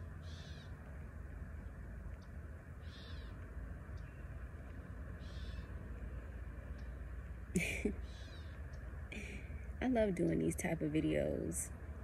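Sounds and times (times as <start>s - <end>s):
birds calling: 0.0s - 1.0s, 1.6s - 10.5s
steady low rumble: 0.0s - 12.0s.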